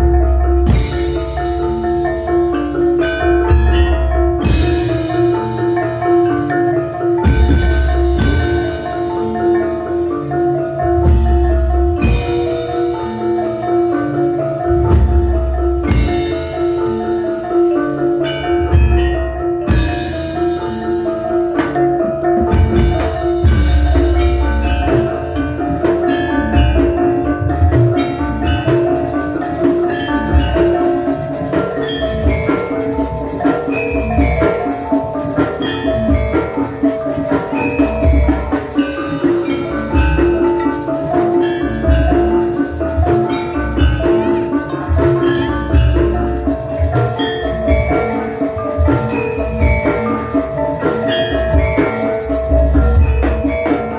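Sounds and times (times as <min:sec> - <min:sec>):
bronze mallet instruments melody: 0:00.0 - 0:53.9.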